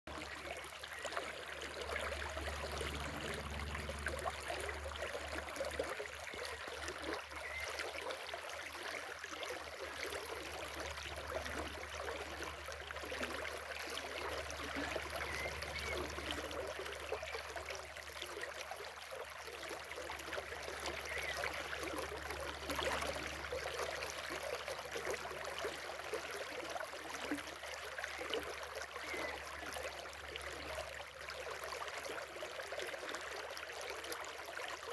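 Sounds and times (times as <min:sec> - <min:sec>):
stream flowing over stones: 0:00.1 - 0:34.9.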